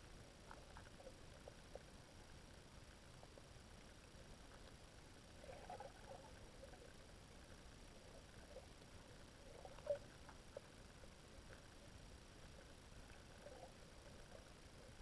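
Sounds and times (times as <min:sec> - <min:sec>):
faint underwater clicking and crackling: 0:00.0 - 0:15.0.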